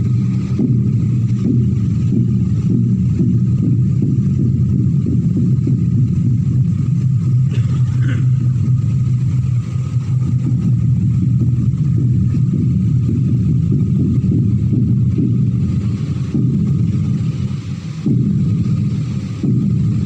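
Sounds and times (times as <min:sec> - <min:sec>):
faint hum: 0:00.0 - 0:20.0
low rumble of moving air: 0:00.0 - 0:20.0.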